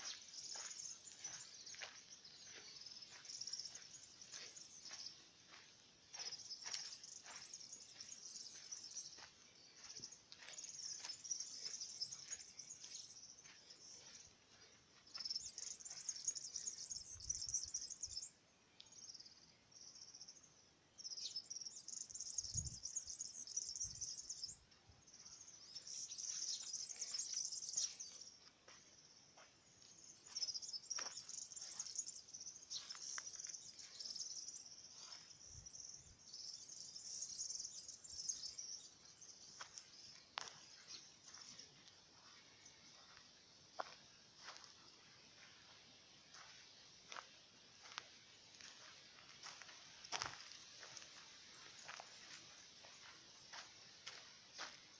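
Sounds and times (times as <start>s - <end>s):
insects chirping: 0.0s - 54.9s.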